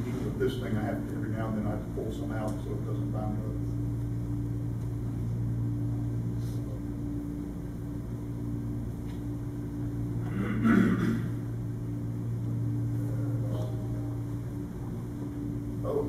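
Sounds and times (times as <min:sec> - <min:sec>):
low hum of room equipment: 0:00.0 - 0:16.0.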